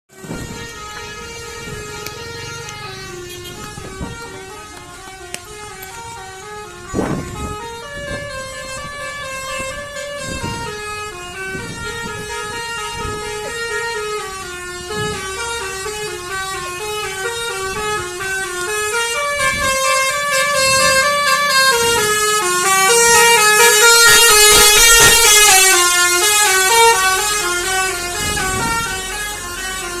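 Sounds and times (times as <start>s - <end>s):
bus musical horn playing a tune: 0.1s - 30.0s.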